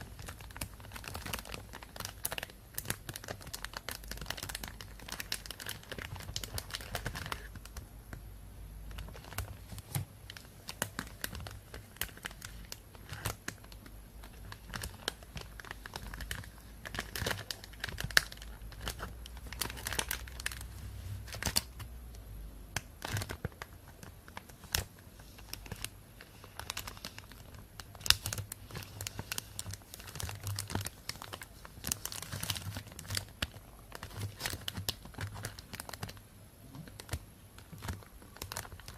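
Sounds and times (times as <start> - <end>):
plastic bag crinkling: 0.0 - 7.8, 8.9 - 21.8, 22.9 - 36.2, 36.8 - 38.9.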